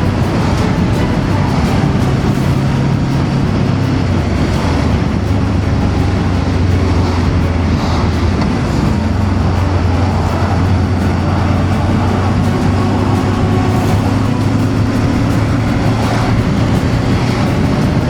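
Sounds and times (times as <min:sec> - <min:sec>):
motorcycle engine cruising: 0:00.0 - 0:18.0
road noise: 0:00.0 - 0:18.0
wind rush: 0:00.0 - 0:18.0.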